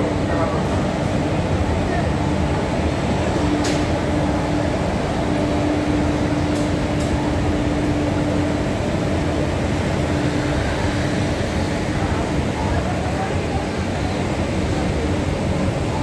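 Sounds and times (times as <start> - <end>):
passenger train rumbling past: 0.0 - 16.0
steady hum: 0.0 - 16.0.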